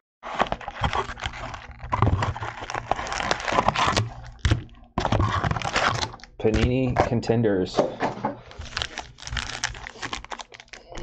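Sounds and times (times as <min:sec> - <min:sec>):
plastic wrapping crinkling and tearing: 0:00.2 - 0:07.1, 0:08.4 - 0:11.0.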